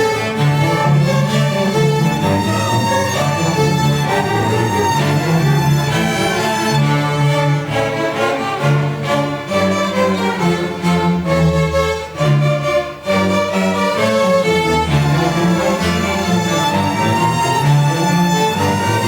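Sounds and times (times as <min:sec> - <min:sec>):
string orchestra playing: 0:00.0 - 0:19.0.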